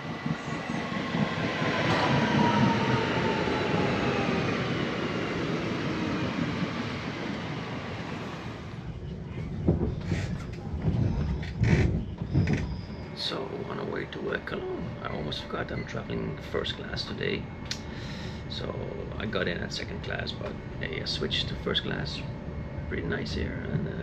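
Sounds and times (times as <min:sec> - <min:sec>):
electric train whine: 0:00.0 - 0:24.0
train running noise: 0:00.0 - 0:24.0.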